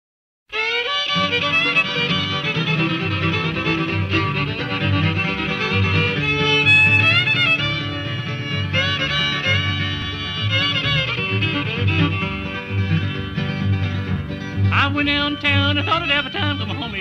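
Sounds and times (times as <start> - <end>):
fiddle playing: 0.5 - 17.0
string rhythm accompaniment: 0.5 - 17.0.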